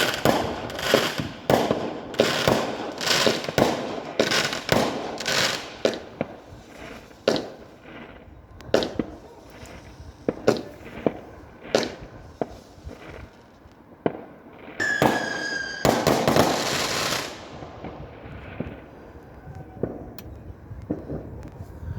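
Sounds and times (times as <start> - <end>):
fireworks crackling hiss: 0.0 - 19.3
fireworks bangs: 0.0 - 21.6.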